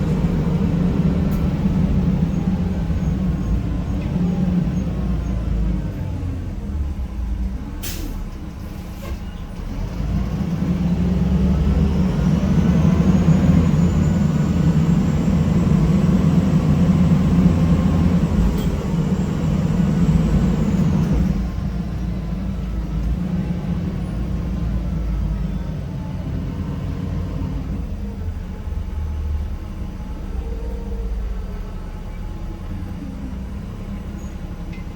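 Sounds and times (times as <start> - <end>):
bus diesel engine humming: 0.0 - 34.9.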